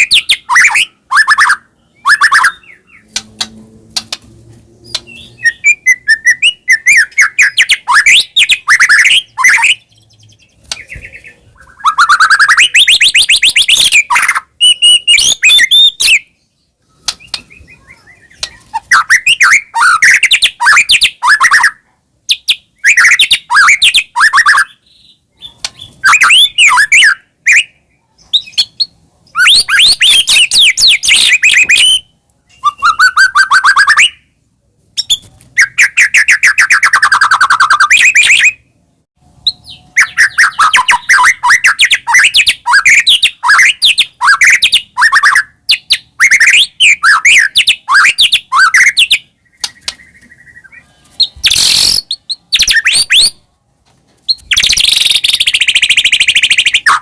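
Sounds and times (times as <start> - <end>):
bird singing whistled phrases: 0.0 - 3.1, 4.9 - 16.3, 16.9 - 27.8, 28.4 - 34.3, 35.0 - 38.6, 39.4 - 53.4, 54.3 - 57.0
harsh rasping bird calls: 0.0 - 4.2, 4.8 - 34.3, 39.4 - 53.4.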